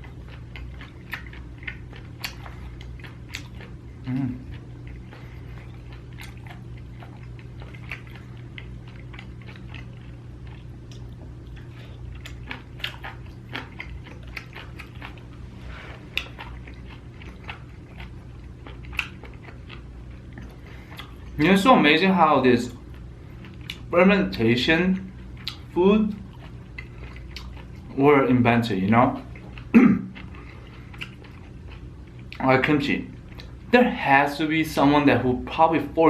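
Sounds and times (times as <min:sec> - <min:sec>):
person chewing: 0:00.0 - 0:21.7, 0:22.7 - 0:34.0
low hum: 0:00.0 - 0:36.0.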